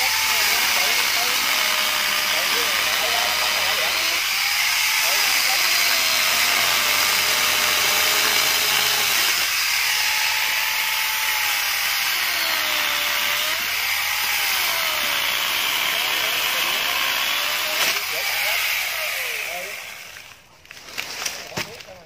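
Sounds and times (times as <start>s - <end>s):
angle grinder cutting wood: 0.0s - 20.5s.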